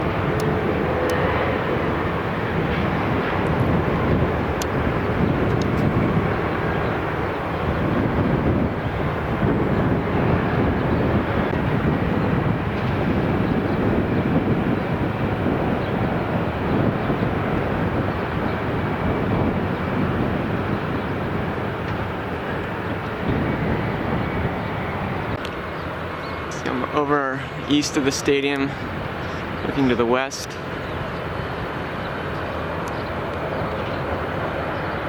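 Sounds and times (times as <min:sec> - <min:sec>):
aircraft engine drone: 0:00.0 - 0:35.0
rushing air: 0:00.0 - 0:35.0.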